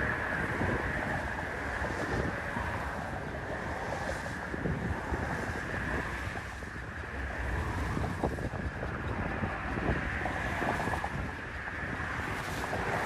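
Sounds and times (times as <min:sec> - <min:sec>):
waves and surf: 0:00.0 - 0:13.0
wind buffeting microphone: 0:00.0 - 0:13.0.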